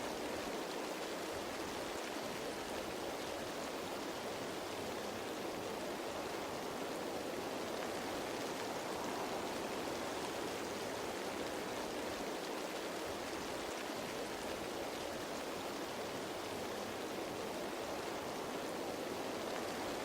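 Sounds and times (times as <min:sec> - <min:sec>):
light rain pattering on leaves: 0:00.0 - 0:20.0.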